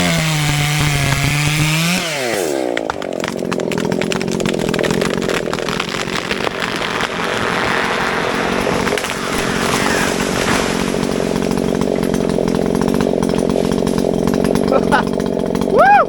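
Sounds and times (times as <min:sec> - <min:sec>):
chainsaw cutting into tree trunk: 0:00.0 - 0:16.0.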